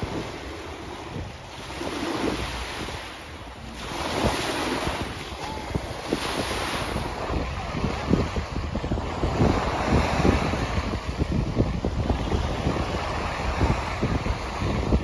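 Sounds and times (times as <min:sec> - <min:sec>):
small waves breaking on beach: 0:00.0 - 0:15.0
wind buffeting microphone: 0:00.0 - 0:15.0.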